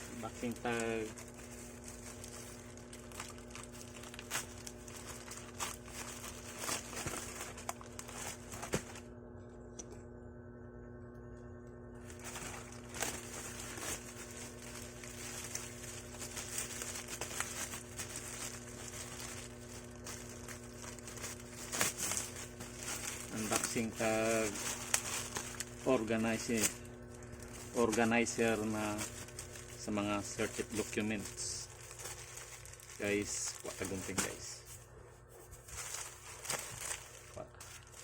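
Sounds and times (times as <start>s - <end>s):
plastic packaging crinkling: 0.0s - 9.1s, 12.0s - 38.0s
steady low hum: 0.0s - 38.0s.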